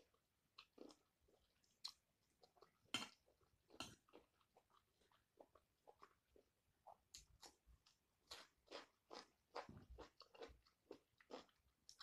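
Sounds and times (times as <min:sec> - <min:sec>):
chewing food: 0:00.0 - 0:12.0.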